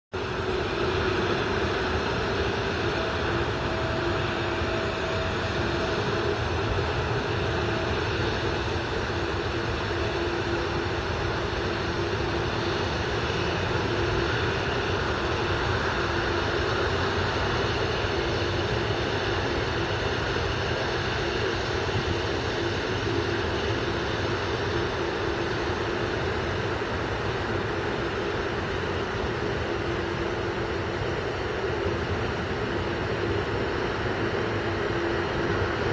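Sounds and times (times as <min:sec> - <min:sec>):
jet engines whining at taxi: 0:00.1 - 0:35.9.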